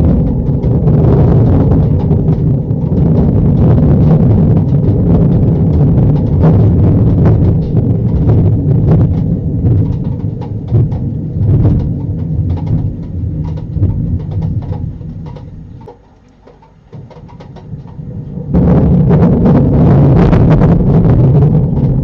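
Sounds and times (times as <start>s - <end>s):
thunder rumbling: 0.0s - 15.9s, 16.8s - 22.0s
crackling storm noise: 0.0s - 22.0s.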